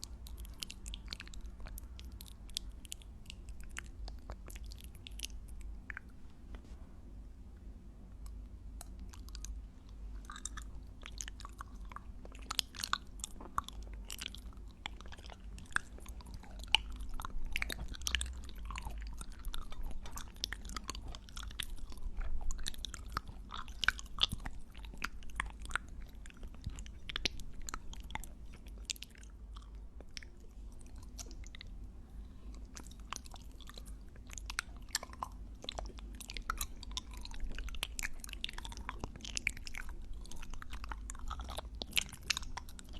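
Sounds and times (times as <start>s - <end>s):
mouth chewing wet clicks: 0.0s - 6.2s, 8.2s - 31.8s, 32.6s - 42.9s.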